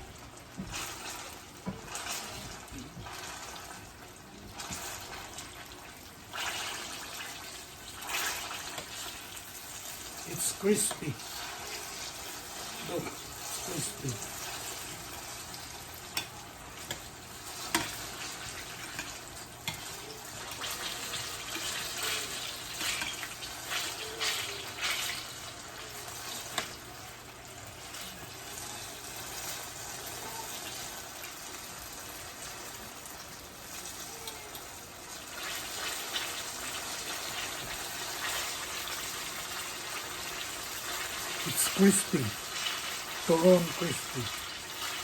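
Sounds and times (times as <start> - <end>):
rolls sizzling in frying oil: 0.0 - 45.0.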